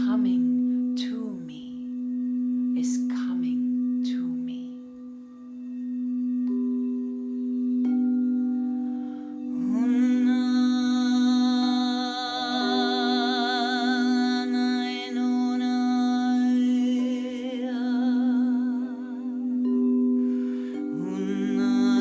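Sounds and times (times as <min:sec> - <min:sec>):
wordless voice singing with vibrato: 0:00.0 - 0:05.0, 0:08.8 - 0:22.0
singing bowls ringing: 0:00.0 - 0:22.0.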